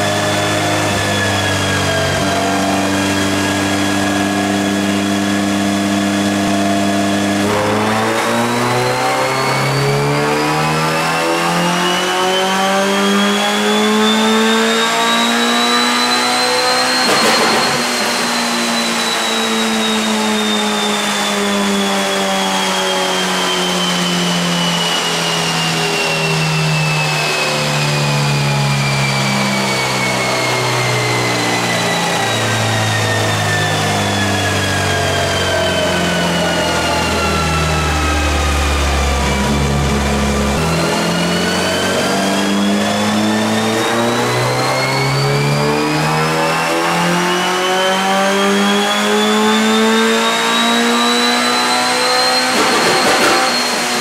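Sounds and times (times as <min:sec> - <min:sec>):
car engine revving on dyno: 0:00.0 - 0:54.0.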